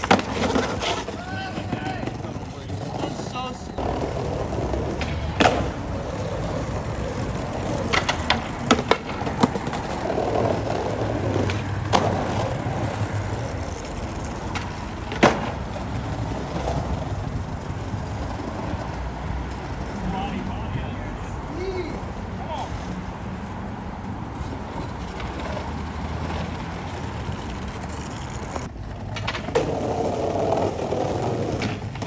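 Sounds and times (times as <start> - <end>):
skateboard clacks: 0.0 - 32.0
skateboard wheels rolling on pavement: 0.0 - 32.0.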